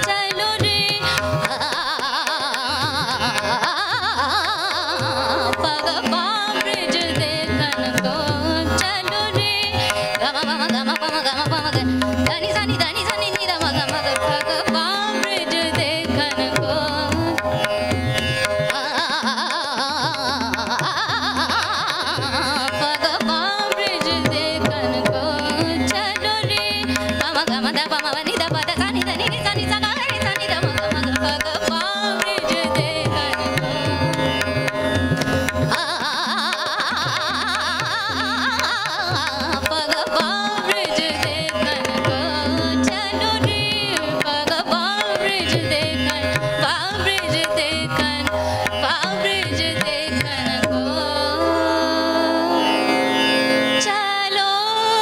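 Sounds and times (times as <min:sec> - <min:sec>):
tabla drumming: 0:00.0 - 0:55.0
woman singing: 0:00.0 - 0:55.0.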